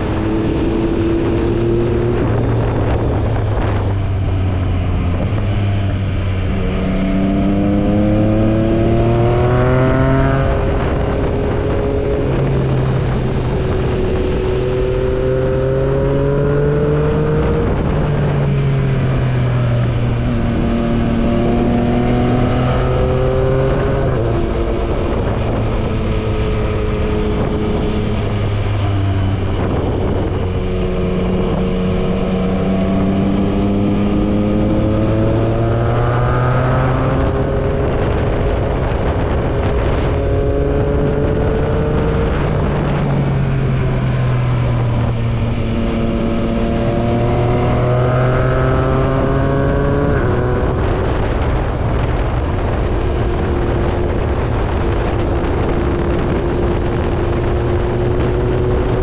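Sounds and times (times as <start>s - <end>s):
motorcycle engine revving: 0.0s - 59.0s
steady rush of noise: 0.0s - 59.0s.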